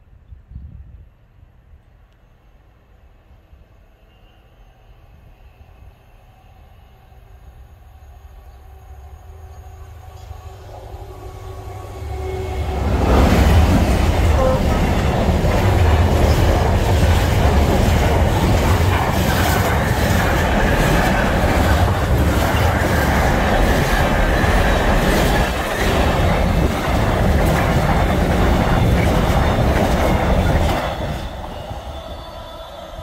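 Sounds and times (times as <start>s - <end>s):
freight train passing: 0.0s - 33.0s.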